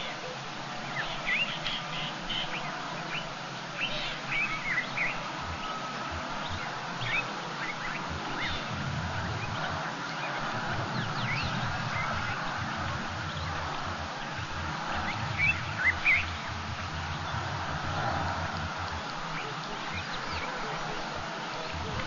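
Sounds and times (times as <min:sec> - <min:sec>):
birds chirping and twittering: 0:00.0 - 0:22.0
steady outdoor hiss: 0:00.0 - 0:22.0.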